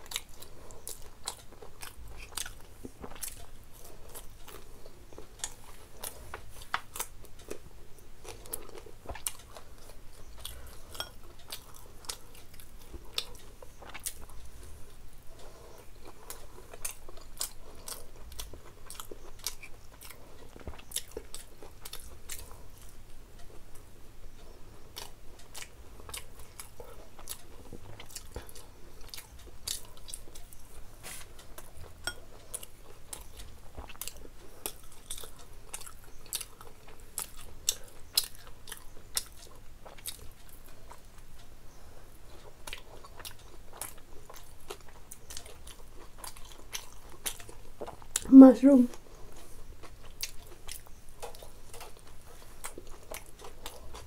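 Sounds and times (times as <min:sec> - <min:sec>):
person chewing crunchy pastry: 0:00.0 - 0:54.0.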